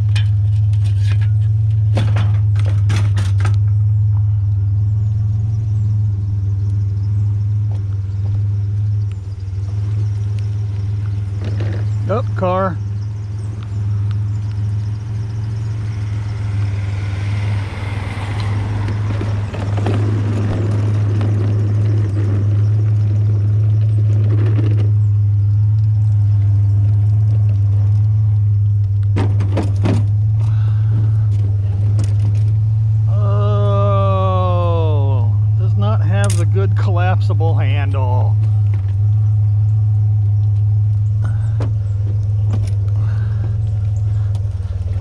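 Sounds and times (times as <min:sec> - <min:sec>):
truck engine droning: 0:00.0 - 0:45.0.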